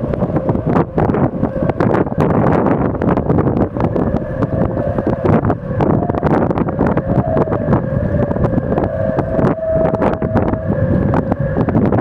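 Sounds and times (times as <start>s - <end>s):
wind buffeting microphone: 0.0s - 12.0s
wind whistling in rigging: 0.0s - 12.0s.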